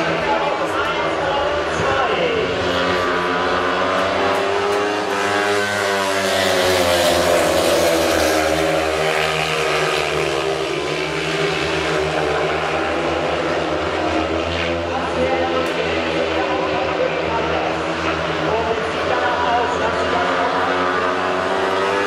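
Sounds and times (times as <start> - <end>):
racing engines accelerating: 0.0 - 22.0.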